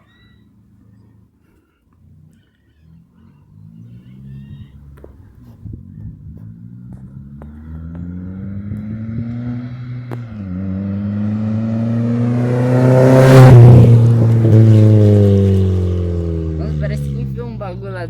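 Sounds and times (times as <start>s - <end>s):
car engine accelerating hard: 2.0s - 18.0s.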